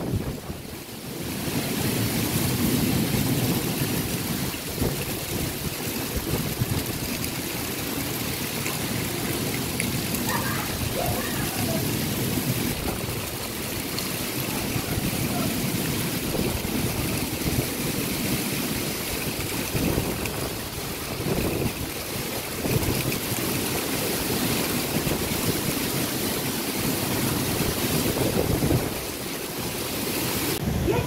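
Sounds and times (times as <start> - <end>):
wind buffeting the microphone: 0.0 - 0.8, 1.4 - 7.5, 9.3 - 31.0
heavy rain: 0.0 - 31.0
wind gusting through trees: 0.0 - 31.0.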